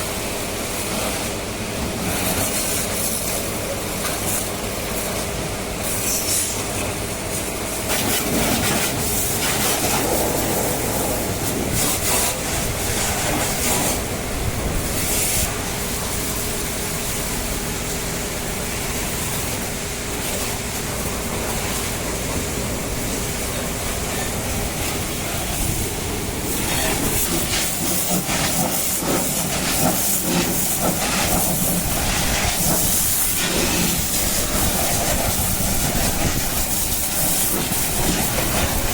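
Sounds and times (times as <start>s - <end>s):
high-pressure water jet hissing: 0.0s - 38.9s.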